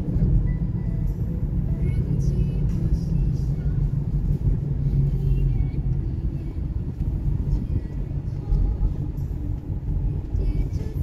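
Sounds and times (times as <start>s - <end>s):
faint music: 0.0s - 11.0s
road vehicle rumble: 0.0s - 11.0s.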